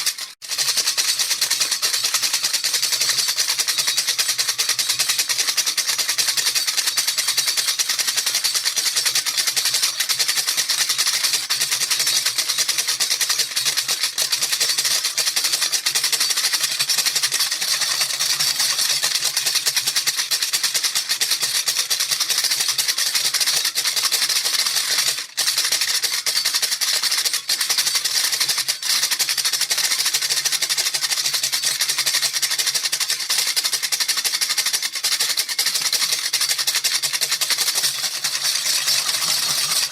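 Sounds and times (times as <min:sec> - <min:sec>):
baby rattle shaken rapidly: 0:00.0 - 0:39.9.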